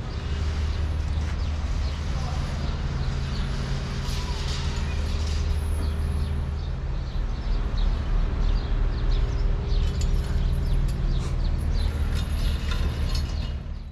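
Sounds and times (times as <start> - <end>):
low hum of street traffic: 0.0 - 13.9
small birds chirping: 0.0 - 13.9.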